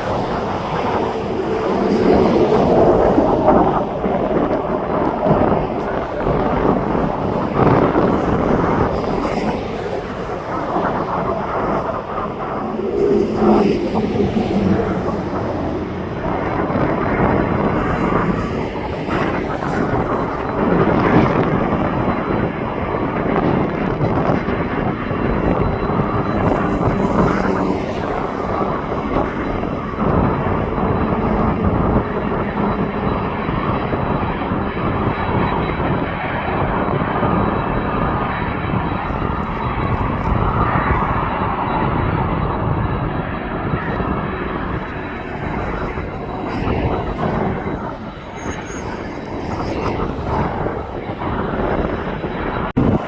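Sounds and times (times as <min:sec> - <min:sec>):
airliner engines rumbling: 0:00.0 - 0:53.0
thin high whine: 0:00.0 - 0:53.0.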